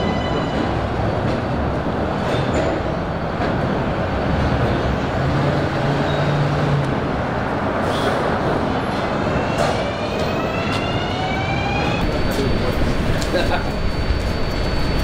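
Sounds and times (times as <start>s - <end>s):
subway train rumble: 0.0s - 15.0s.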